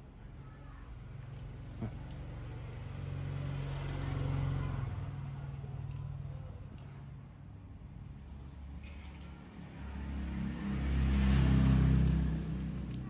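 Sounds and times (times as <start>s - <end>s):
vehicle engine passing: 0.9s - 13.0s.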